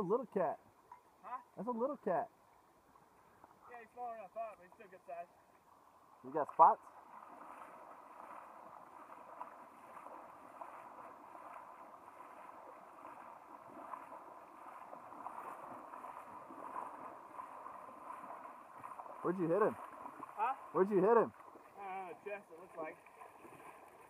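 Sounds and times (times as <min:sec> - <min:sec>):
water sloshing and splashing: 0:04.6 - 0:24.0.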